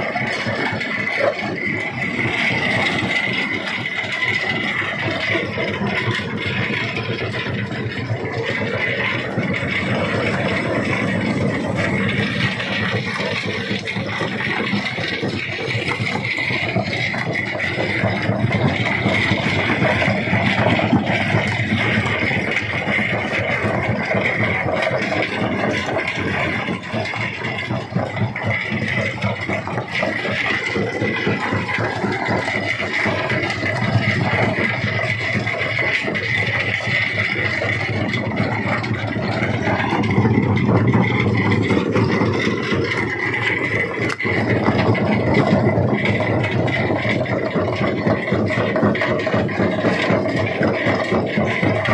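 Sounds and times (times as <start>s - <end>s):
rock crusher clattering: 0.0s - 51.9s.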